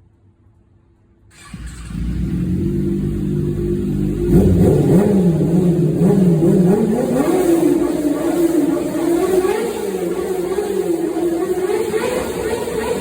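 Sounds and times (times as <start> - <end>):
motorcycle engine revving: 1.3 - 13.0.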